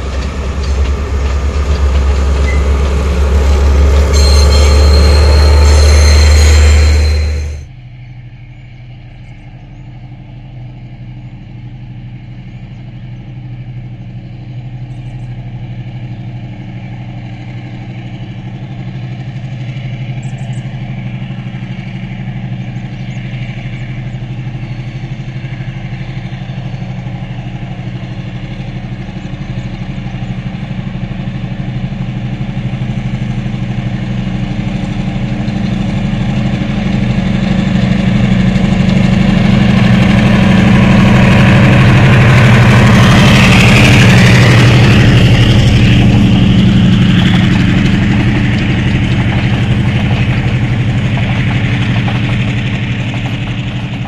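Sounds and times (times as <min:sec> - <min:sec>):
train wheels on rails: 0:00.0 - 0:08.4, 0:11.5 - 0:54.0
diesel train engine drone: 0:00.0 - 0:54.0.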